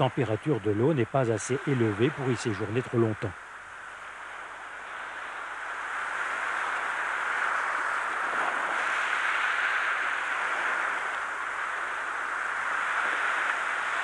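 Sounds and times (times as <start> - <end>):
small waves breaking on beach: 0.0 - 14.0.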